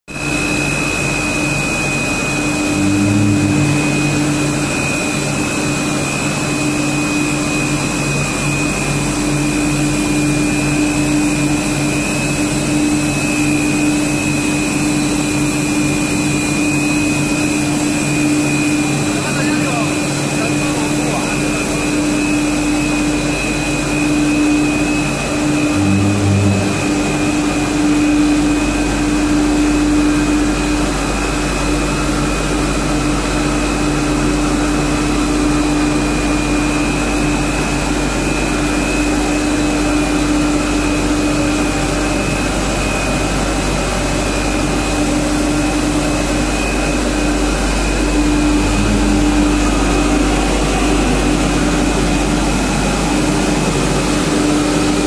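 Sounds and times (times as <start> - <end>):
machine drone with high whine: 0.1 - 55.0.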